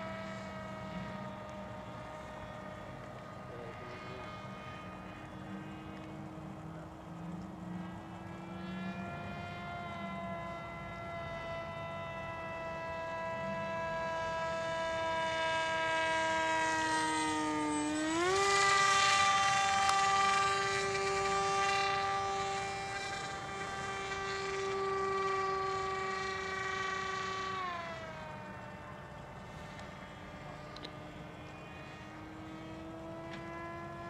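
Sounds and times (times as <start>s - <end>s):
model airplane motor droning: 0.0s - 34.0s.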